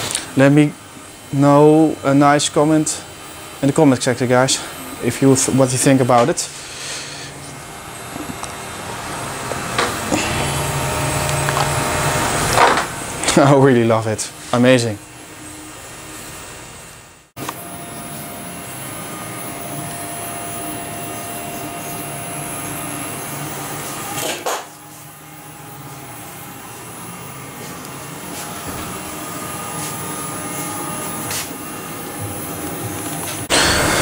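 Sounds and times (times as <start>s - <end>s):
mechanical whirring hum: 0.0s - 34.0s.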